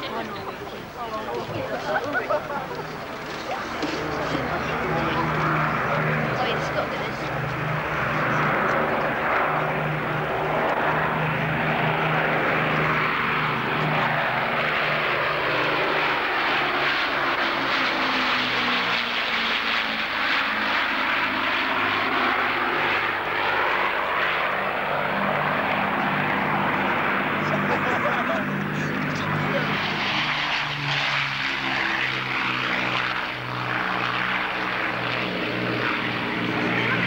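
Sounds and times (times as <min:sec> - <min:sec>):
propeller plane flying overhead: 0:00.0 - 0:37.0.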